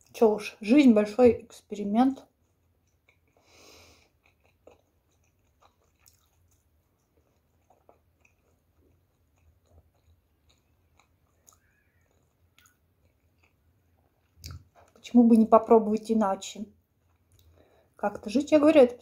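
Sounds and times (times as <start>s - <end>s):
chewing food: 1.4s - 19.0s.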